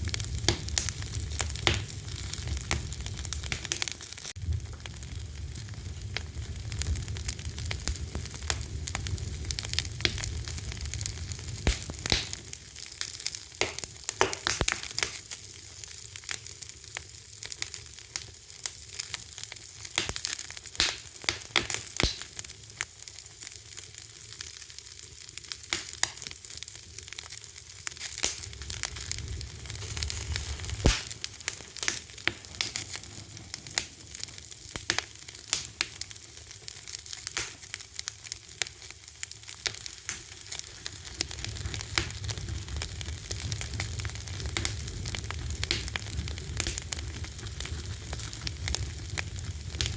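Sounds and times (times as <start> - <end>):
low rumble of flames: 0.0 - 49.9
wood fire crackling: 0.0 - 49.9.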